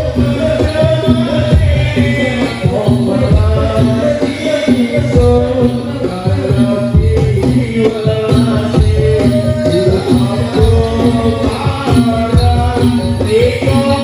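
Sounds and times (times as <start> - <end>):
jingling percussion: 0.0 - 14.0.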